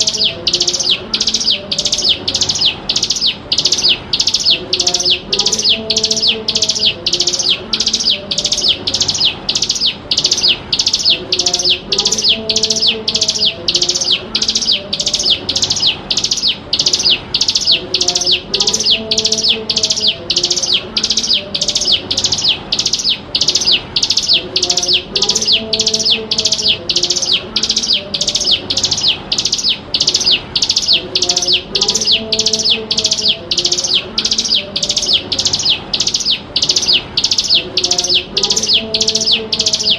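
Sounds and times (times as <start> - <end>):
bird calling high notes: 0.0 - 39.9.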